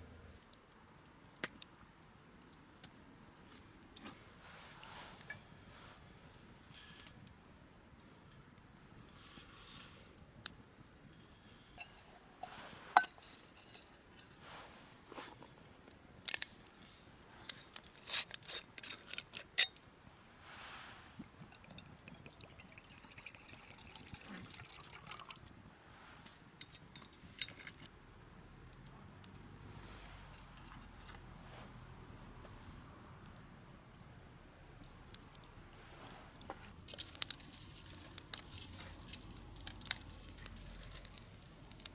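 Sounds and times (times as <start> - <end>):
small liquid sounds: 0.3 - 28.0, 33.2 - 41.9.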